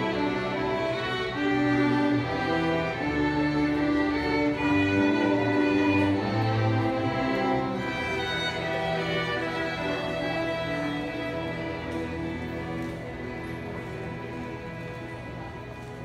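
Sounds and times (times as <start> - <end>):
string orchestra playing: 0.0 - 16.0.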